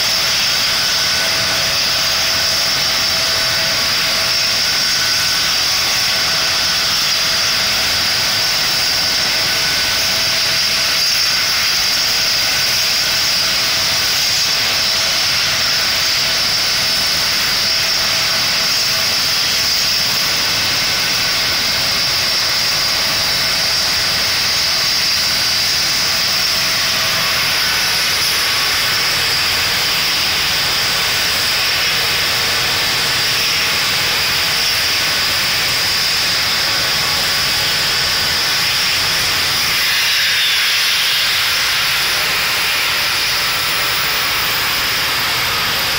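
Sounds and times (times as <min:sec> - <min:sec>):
helicopter turbine whine: 0:00.0 - 0:45.9.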